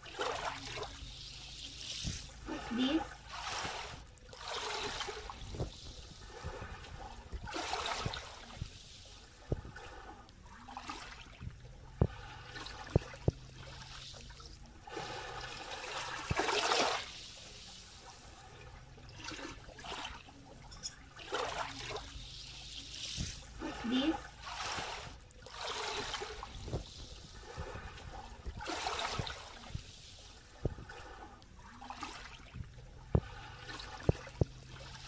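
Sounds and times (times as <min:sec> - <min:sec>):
waves lapping on sand: 0:00.0 - 0:20.4, 0:21.0 - 0:35.0.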